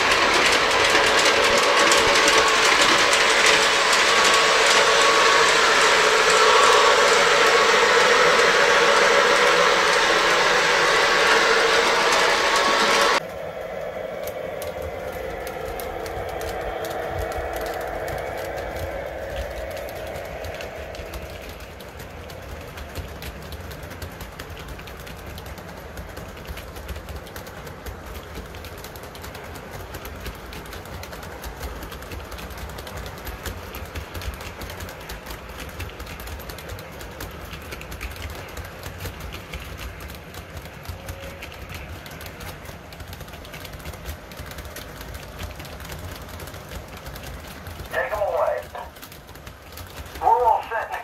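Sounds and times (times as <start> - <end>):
low train rumble: 0.0 - 51.0
model train wheels clicking: 0.0 - 51.0.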